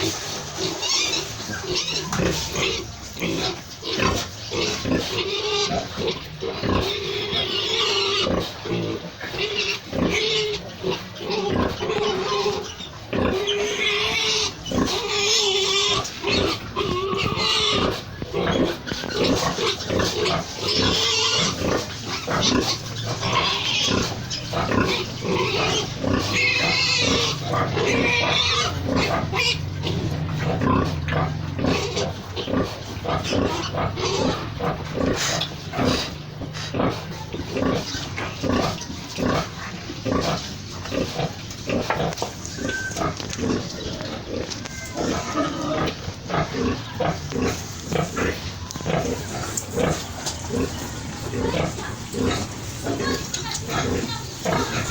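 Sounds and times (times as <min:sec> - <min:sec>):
pigs calling: 0:00.0 - 0:54.9.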